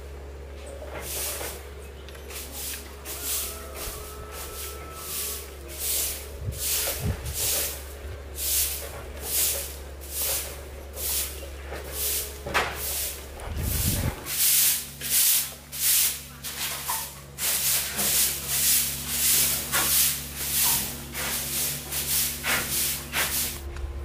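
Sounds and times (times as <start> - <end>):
broom sweeping a floor: 0.6 - 23.7.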